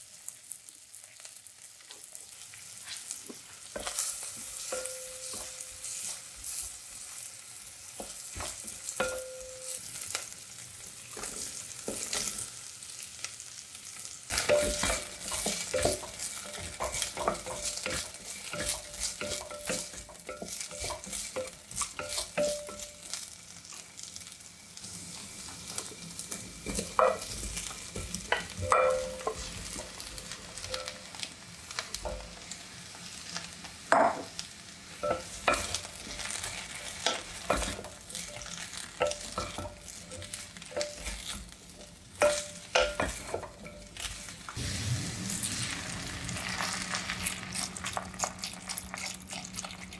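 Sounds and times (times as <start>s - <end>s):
steady sizzle: 0.0s - 49.9s.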